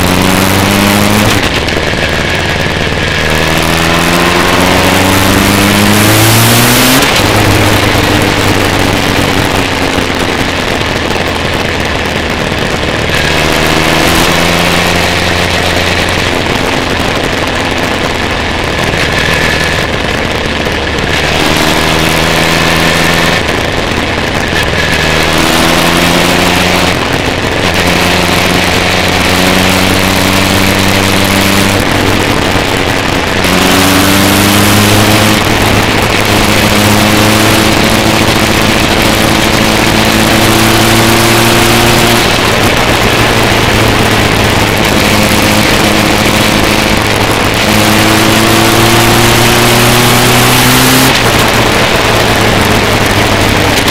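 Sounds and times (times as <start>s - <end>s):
motorcycle engine revving through gears: 0.0s - 53.9s
wind rushing over microphone: 0.0s - 53.9s.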